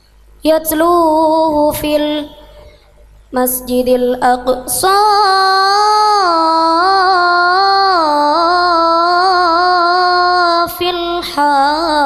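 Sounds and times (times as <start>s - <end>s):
women singing a cappella: 0.4s - 2.7s, 3.4s - 12.0s.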